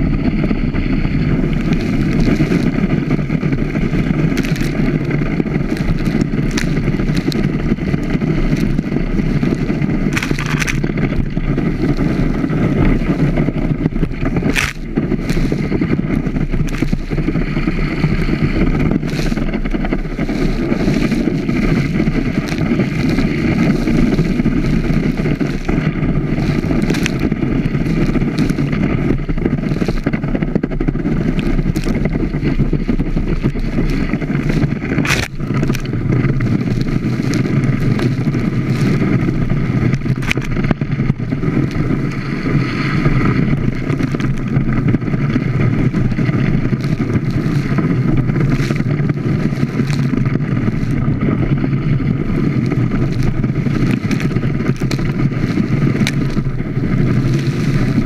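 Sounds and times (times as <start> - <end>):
water rushing and spraying: 0.0 - 42.2, 45.1 - 51.0, 51.8 - 58.0
boat engine running: 0.0 - 58.0
water splashing on camera: 0.0 - 58.0.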